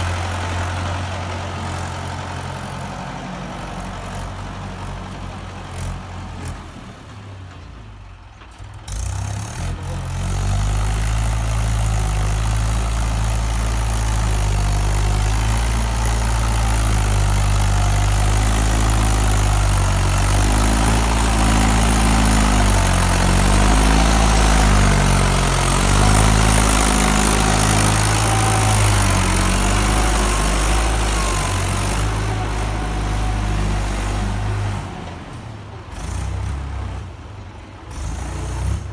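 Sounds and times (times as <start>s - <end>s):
tractor diesel engine labouring: 0.0s - 38.9s.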